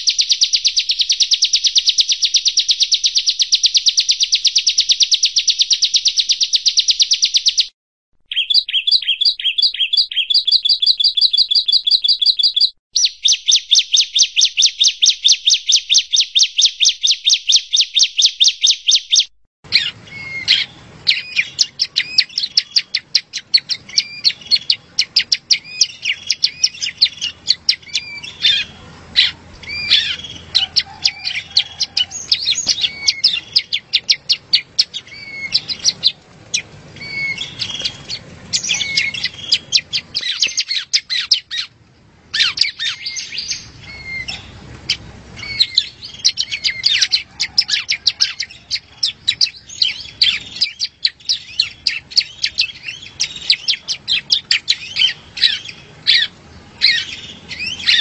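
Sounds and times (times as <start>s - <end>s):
bird singing sharp chirps: 0.0s - 41.7s, 42.3s - 58.0s.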